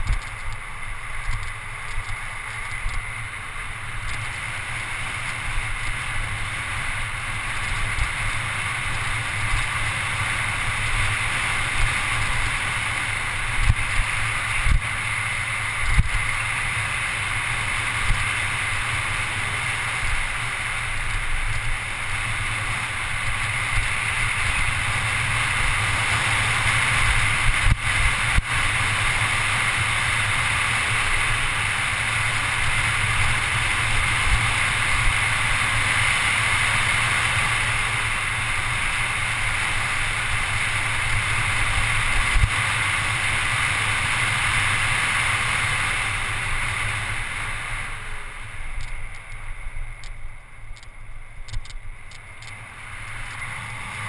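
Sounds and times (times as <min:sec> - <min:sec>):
bike tyres rolling on asphalt: 0:00.0 - 0:54.0
wind rushing over camera: 0:00.0 - 0:54.0.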